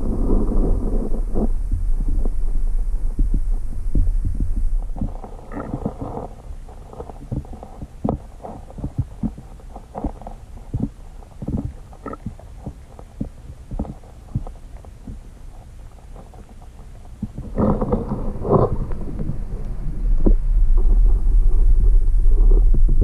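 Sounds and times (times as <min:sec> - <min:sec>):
low underwater rumble: 0:00.0 - 0:23.0
soft underwater knocks and clicks: 0:03.2 - 0:23.0.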